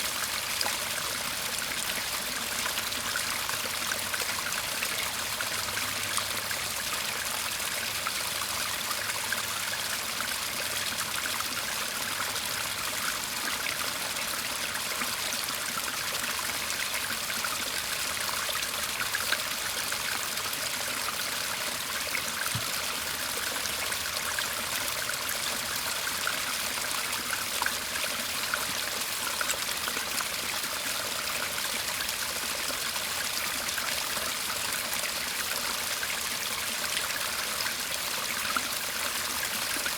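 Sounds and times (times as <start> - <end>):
stream water trickling and splashing: 0.0 - 39.9.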